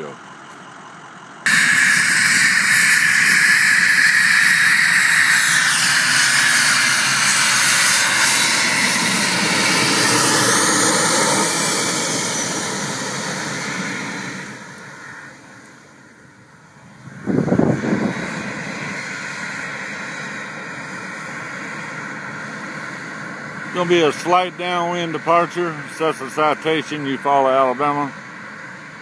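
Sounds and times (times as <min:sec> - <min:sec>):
jet engines whining: 0:00.0 - 0:29.0.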